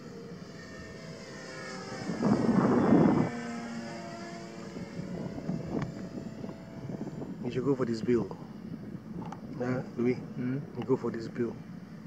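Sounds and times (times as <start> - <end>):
model plane motor whining: 0.0 - 10.6
rushing noise of plane passing: 0.0 - 12.0.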